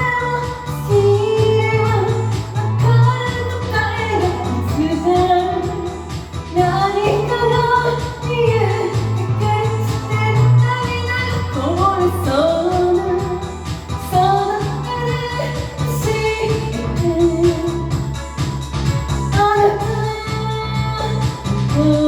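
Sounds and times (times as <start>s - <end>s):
karaoke backing track: 0.0s - 22.0s
woman singing pop song: 0.0s - 22.0s.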